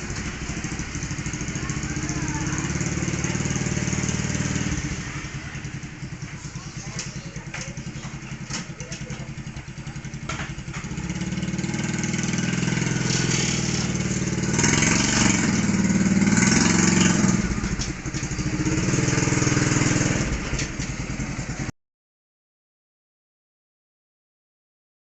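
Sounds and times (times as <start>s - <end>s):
small engine revving: 0.0s - 21.7s.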